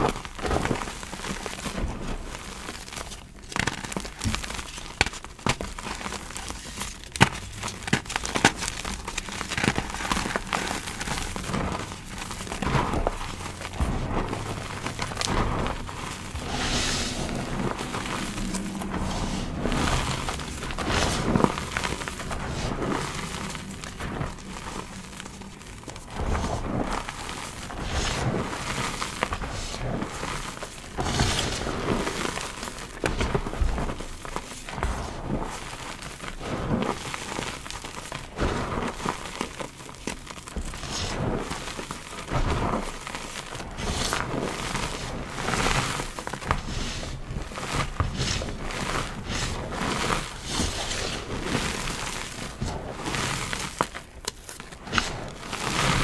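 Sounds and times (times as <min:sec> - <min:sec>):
chalk powder crunching: 0:00.0 - 0:56.0.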